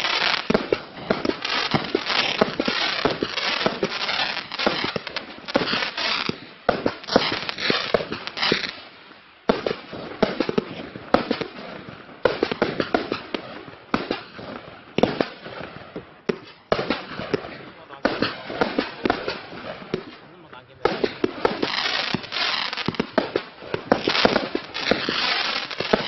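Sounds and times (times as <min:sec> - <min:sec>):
fireworks reports: 0:00.0 - 0:08.9, 0:09.5 - 0:26.0
fireworks crackle: 0:00.0 - 0:26.0.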